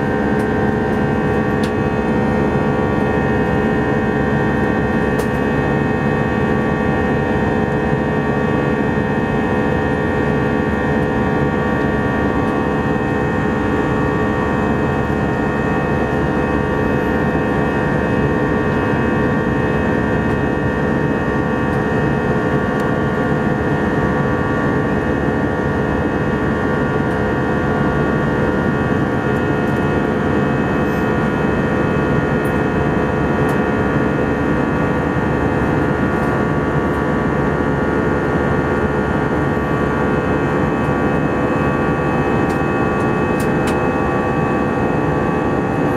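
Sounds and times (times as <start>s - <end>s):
jet engine and airflow rush in cabin: 0.0s - 45.9s.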